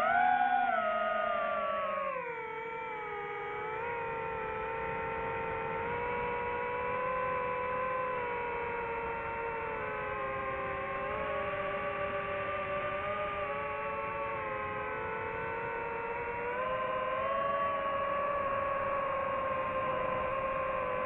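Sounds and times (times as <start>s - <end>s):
drone propellers whining: 3.7s - 21.0s.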